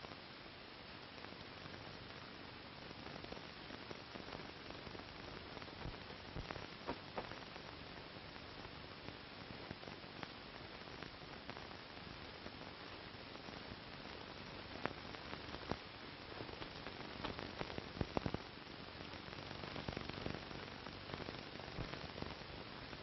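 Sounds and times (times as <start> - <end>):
film soundtrack hiss: 0.0 - 23.0.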